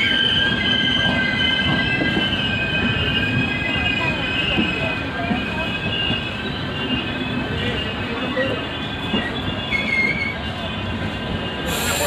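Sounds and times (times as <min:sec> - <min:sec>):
high wheel squeals: 0:00.0 - 0:12.0
train wheels rumbling on rails: 0:00.0 - 0:12.0.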